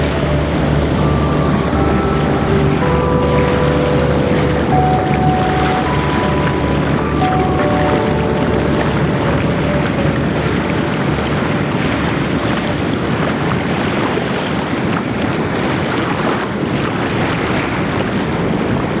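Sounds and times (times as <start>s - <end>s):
waves and water rushing: 0.0s - 19.0s
wind buffeting microphone: 0.0s - 19.0s.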